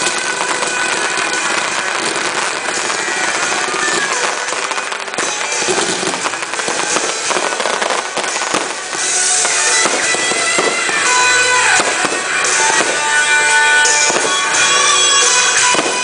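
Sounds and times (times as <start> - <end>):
fireworks bursting and crackling: 0.0 - 16.0
music: 0.0 - 16.0.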